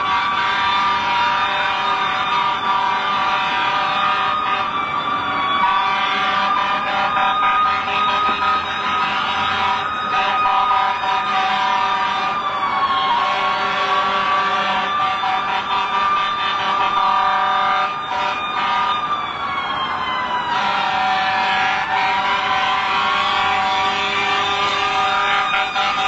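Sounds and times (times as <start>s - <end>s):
sirens wailing: 0.0s - 26.0s.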